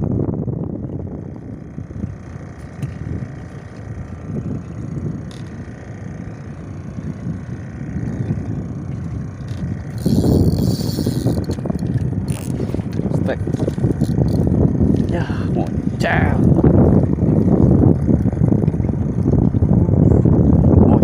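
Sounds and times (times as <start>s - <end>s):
faint steady hum: 0.0s - 21.0s
wind rumbling on microphone: 0.0s - 21.0s.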